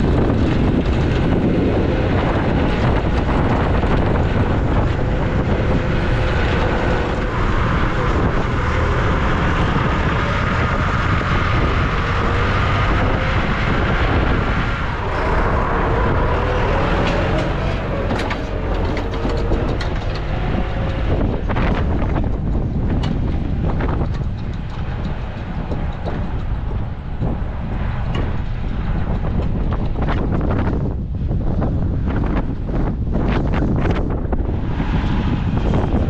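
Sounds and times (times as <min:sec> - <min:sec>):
sharp knocks and rattles: 0:00.0 - 0:30.8
vehicle engine running: 0:00.0 - 0:36.0.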